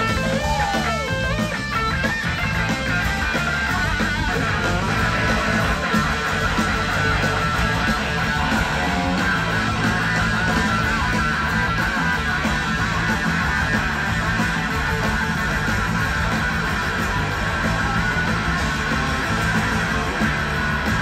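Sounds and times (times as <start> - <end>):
electric guitar: 0.0 - 21.0
live blues rock band: 0.0 - 21.0.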